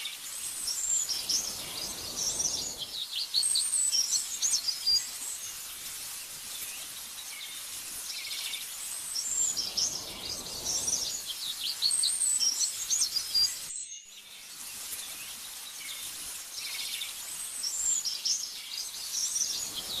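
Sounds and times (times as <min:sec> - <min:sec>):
small birds chirping: 0:00.0 - 0:20.0
soft background hiss: 0:00.0 - 0:20.0.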